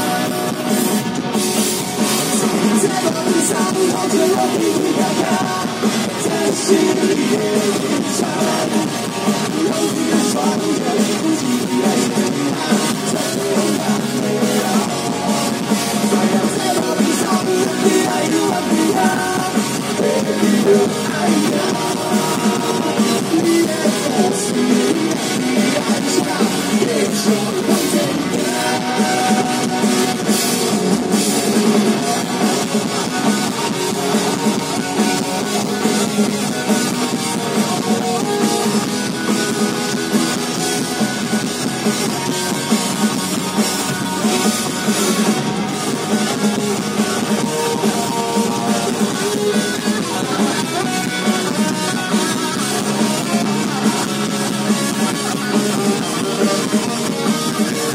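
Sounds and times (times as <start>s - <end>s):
live punk rock band: 0.0s - 57.9s.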